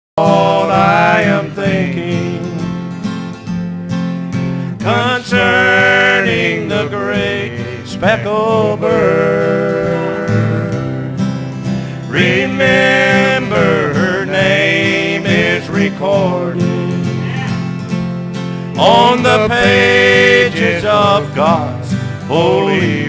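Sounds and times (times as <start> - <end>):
acoustic guitar chords: 0.2 - 23.0.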